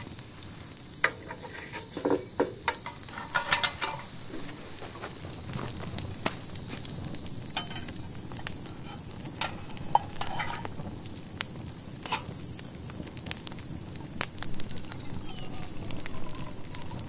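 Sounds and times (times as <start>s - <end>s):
campfire crackling: 0.0s - 17.0s
fire pops: 0.0s - 17.0s.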